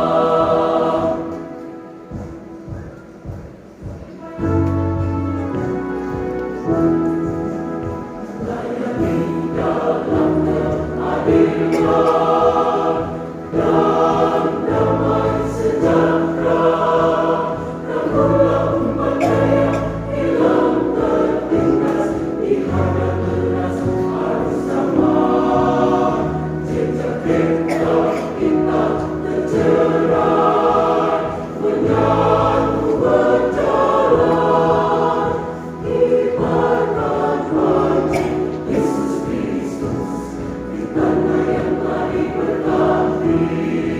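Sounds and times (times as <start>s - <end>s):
choir singing in harmony: 0.0s - 43.9s.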